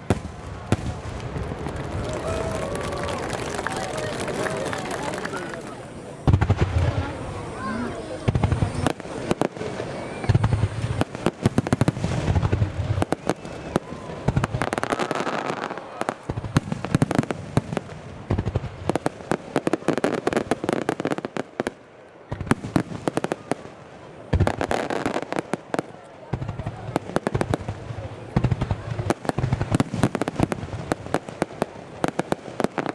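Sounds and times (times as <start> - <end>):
fireworks bangs and booms: 0.0 - 32.9.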